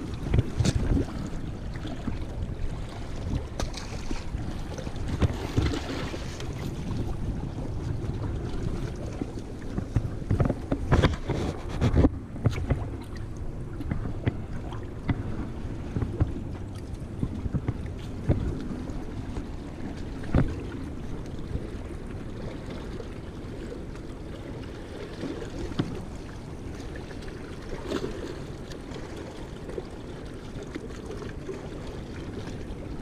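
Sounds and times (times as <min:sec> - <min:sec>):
wind on microphone: 0:00.0 - 0:29.2
flowing river water: 0:00.0 - 0:33.0.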